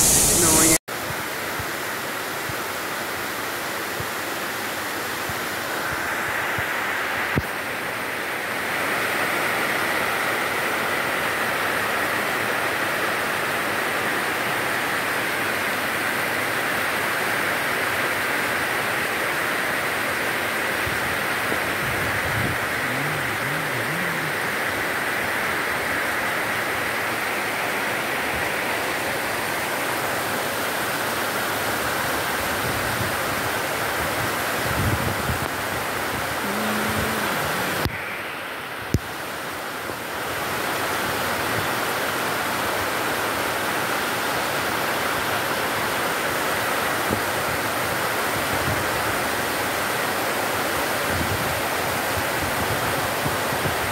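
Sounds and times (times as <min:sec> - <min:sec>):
heavy rain on foliage and roofs: 0:00.0 - 0:53.9.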